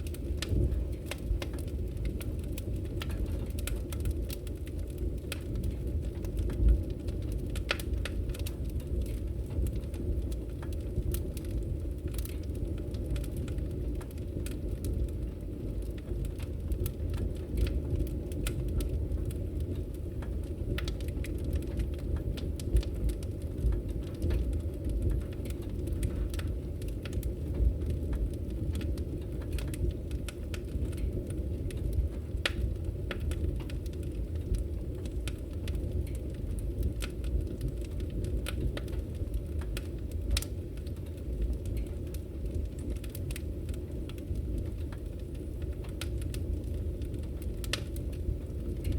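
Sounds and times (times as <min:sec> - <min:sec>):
burning wood crackling and popping: 0:00.0 - 0:48.9
log fire rumbling: 0:00.0 - 0:48.9.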